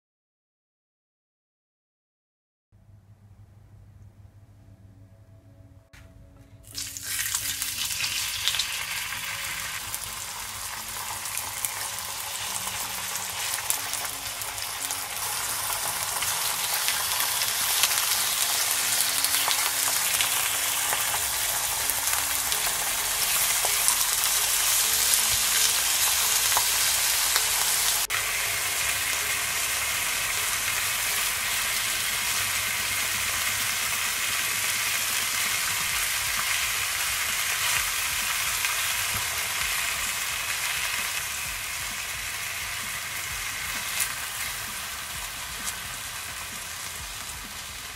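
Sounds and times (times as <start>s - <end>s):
meat sizzling in hot oil: 6.6s - 47.9s.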